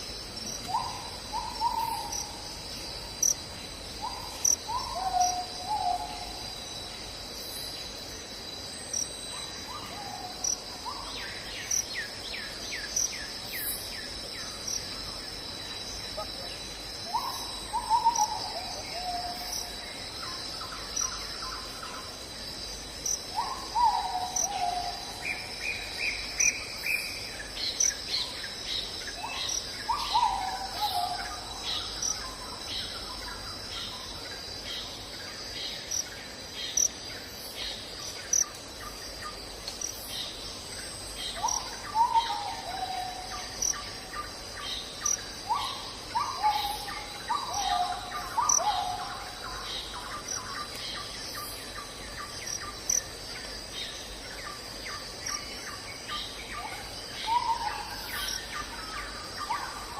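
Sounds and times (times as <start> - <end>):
night insects trilling: 0.0 - 59.9.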